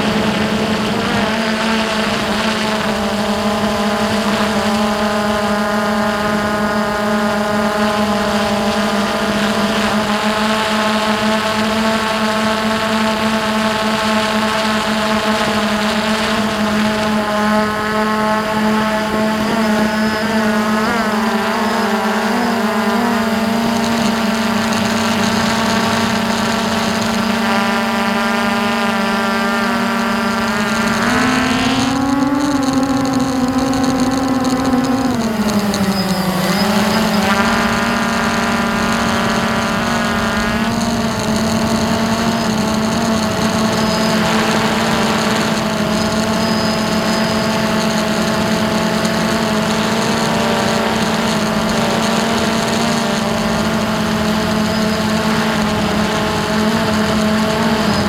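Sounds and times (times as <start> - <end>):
quadcopter motors buzzing: 0.0 - 58.0.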